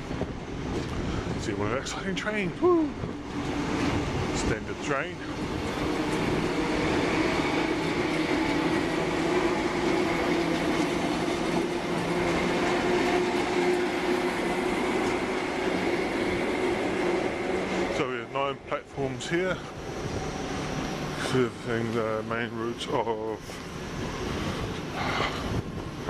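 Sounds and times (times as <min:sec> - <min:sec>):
train humming: 0:00.0 - 0:26.0.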